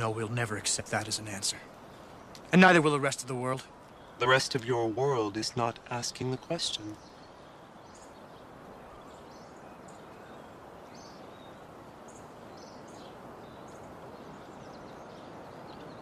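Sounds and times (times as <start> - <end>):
soft even hiss: 0.0 - 16.0.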